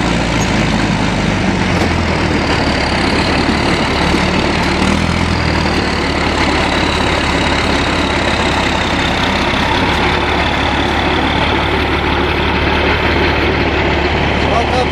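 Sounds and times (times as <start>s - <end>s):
heavy diesel engines running: 0.0s - 14.9s.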